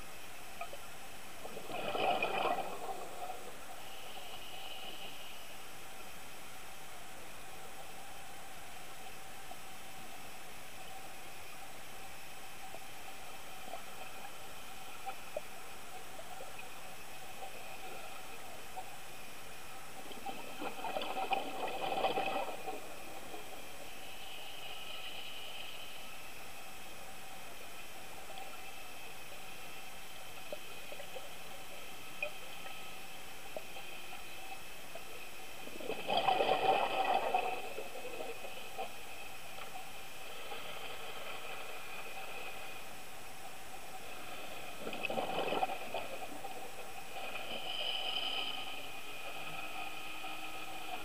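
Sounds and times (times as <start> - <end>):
faint hum tones: 0.0 - 51.0
steady hiss: 0.0 - 51.0
faint ticks: 0.1 - 51.0.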